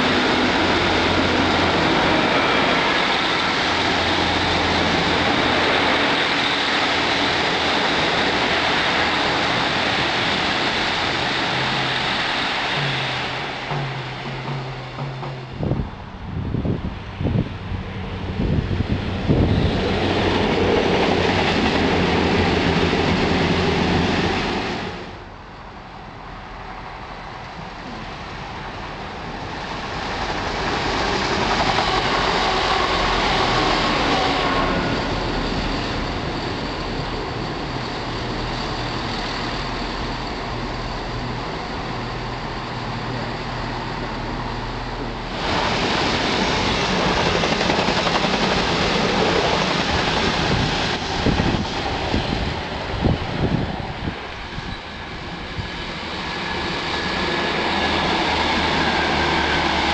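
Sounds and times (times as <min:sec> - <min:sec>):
diesel train engines: 0:00.0 - 0:59.9.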